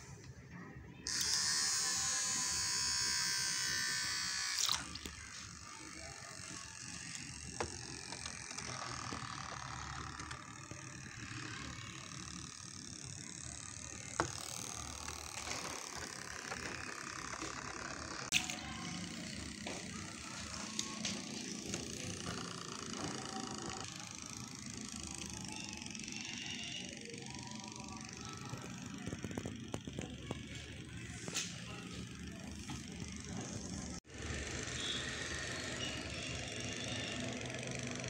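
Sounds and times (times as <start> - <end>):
small motor whirring: 1.0 - 38.0.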